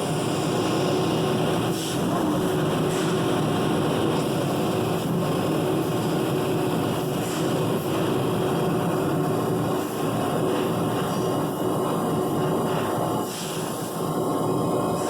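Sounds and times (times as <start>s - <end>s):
laser cutting machine drone: 0.0s - 15.0s.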